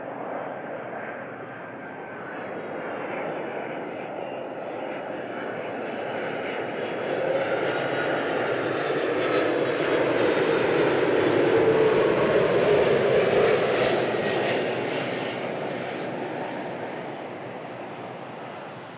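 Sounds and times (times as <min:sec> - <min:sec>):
jet engines rumbling and whining: 0:00.0 - 0:18.9.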